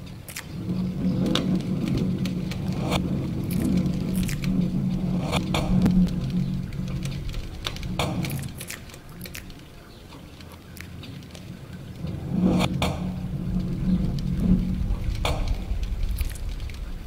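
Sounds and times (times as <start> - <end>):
low drone: 0.0 - 17.0
scattered clicks and crackles: 0.0 - 17.0.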